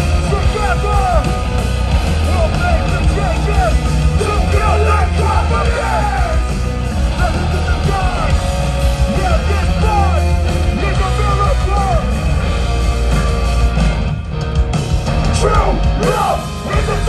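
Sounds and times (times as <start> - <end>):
hardcore band playing live: 0.0 - 17.0.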